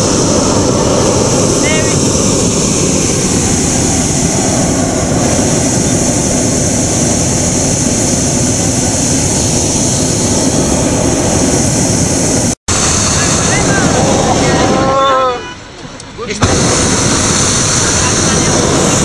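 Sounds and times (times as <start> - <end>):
propane burner blast: 0.0 - 19.0.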